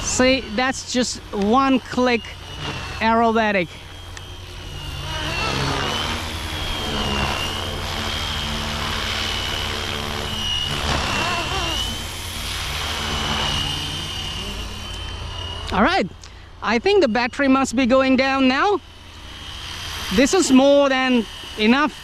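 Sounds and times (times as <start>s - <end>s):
deeper rotor sound: 0.0s - 22.0s
rc helicopter whine: 0.0s - 22.0s.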